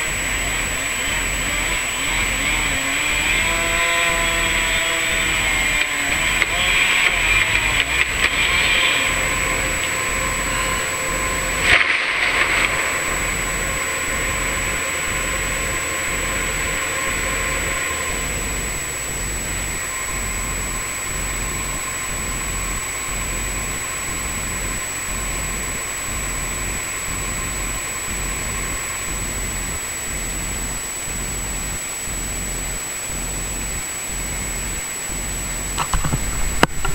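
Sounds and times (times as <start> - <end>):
bulldozer engine running: 0.0 - 36.9
steady hiss: 0.0 - 36.9.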